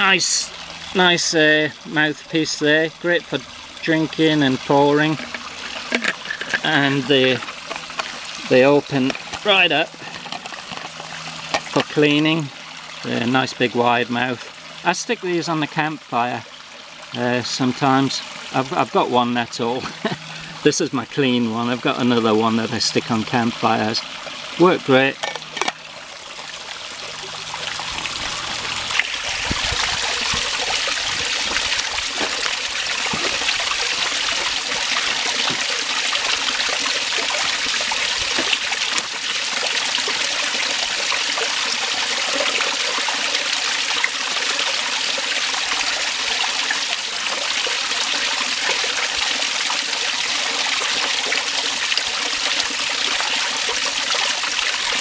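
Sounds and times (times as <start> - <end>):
creek water trickling: 0.0 - 55.0.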